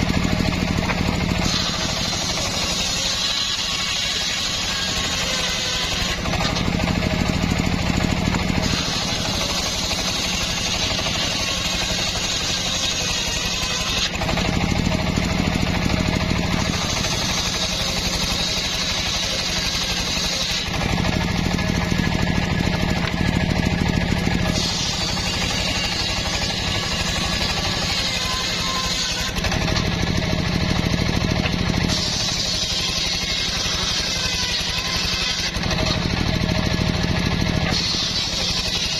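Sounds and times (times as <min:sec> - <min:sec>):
saw blade cutting wood: 0:00.0 - 0:38.9
sawmill machine hum: 0:00.0 - 0:38.9.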